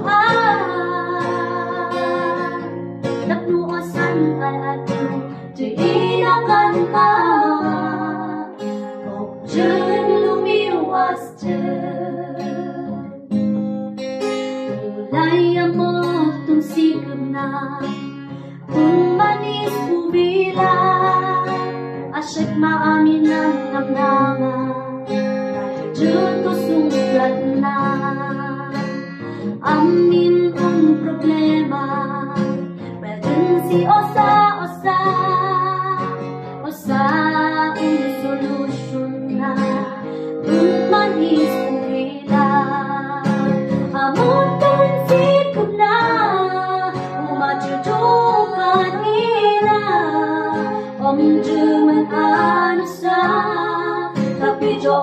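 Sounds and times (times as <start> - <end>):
women singing a duet: 0.0 - 13.2, 15.1 - 55.0
strummed acoustic guitar: 0.0 - 55.0.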